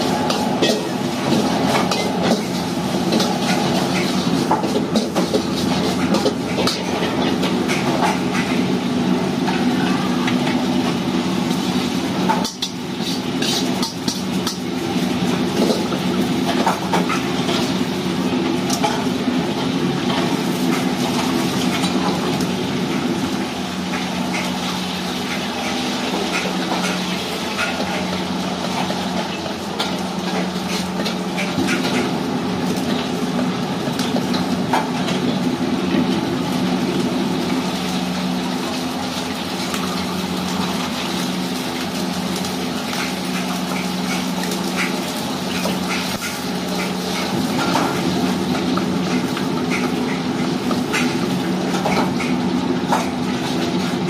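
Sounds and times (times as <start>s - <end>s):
exhaust fan hum: 0.0s - 54.0s
gas burner roar: 0.0s - 54.0s.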